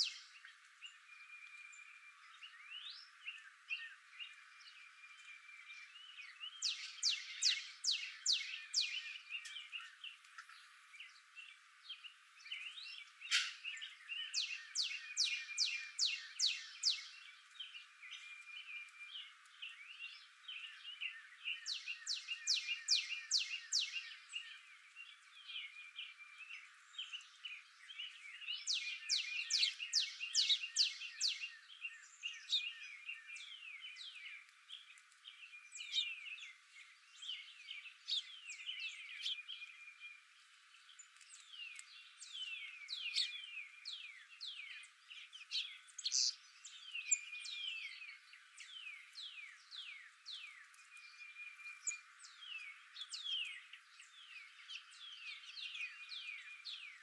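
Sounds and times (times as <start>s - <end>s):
soft bird chirps: 0.0s - 57.0s
wild birds singing: 0.0s - 57.0s.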